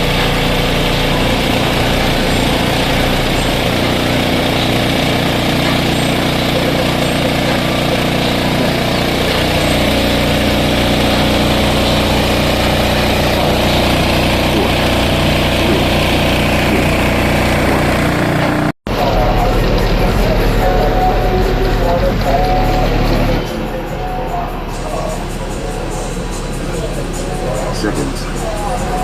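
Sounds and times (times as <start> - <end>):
loud low drone: 0.0 - 29.0.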